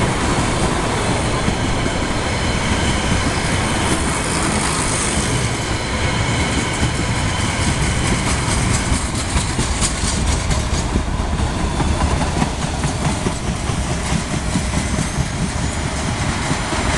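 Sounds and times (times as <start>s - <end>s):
freight train rolling past: 0.0s - 16.9s.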